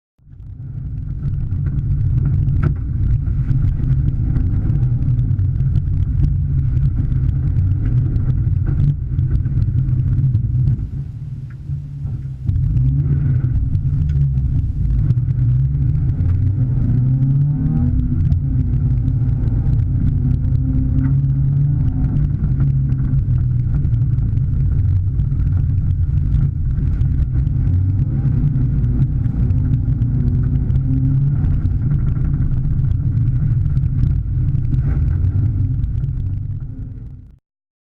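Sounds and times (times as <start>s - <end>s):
car engine revving: 0.4s - 37.2s.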